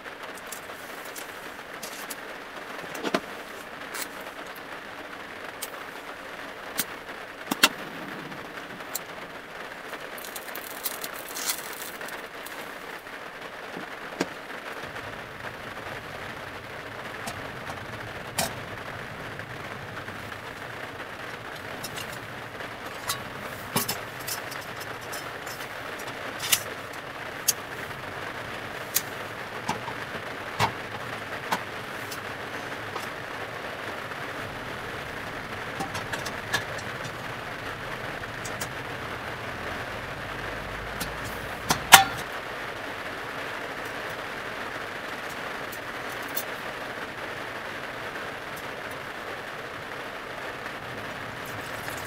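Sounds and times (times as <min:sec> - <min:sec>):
rain on a van roof: 0:00.0 - 0:52.0.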